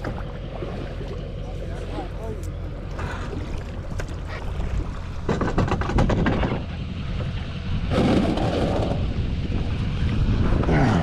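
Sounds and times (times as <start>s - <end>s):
water moving along canoe hull: 0.0s - 11.0s
wind buffeting microphone: 0.0s - 11.0s.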